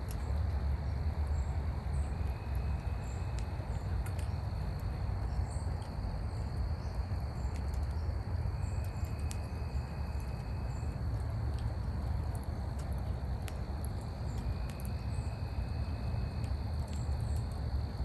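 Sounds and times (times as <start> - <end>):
fire crackling and rumbling: 0.0 - 18.0.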